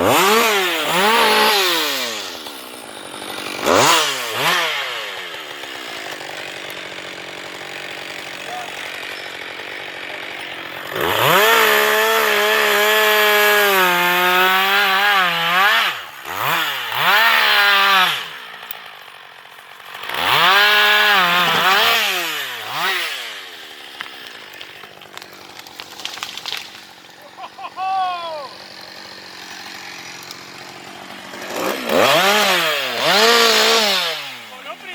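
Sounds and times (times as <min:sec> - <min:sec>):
chainsaw idling and revving: 0:00.0 - 0:34.9.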